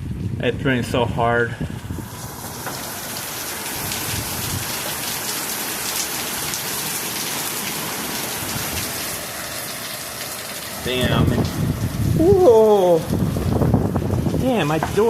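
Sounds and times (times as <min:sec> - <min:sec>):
heavy rain pouring: 0:01.6 - 0:15.0.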